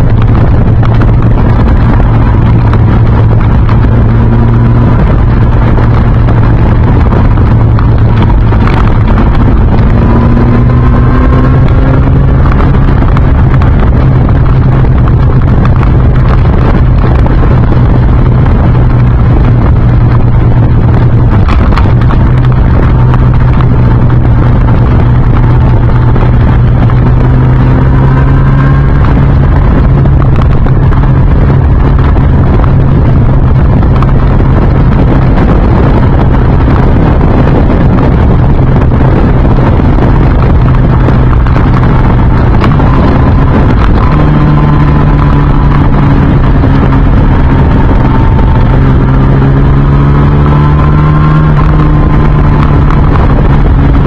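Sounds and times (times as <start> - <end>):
motorcycle engine running: 0.0 - 54.0
wind noise on microphone: 0.0 - 54.0.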